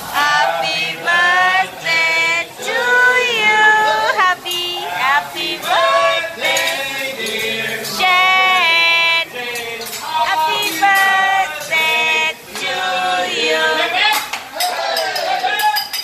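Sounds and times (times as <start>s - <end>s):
adults and children singing: 0.0s - 15.7s.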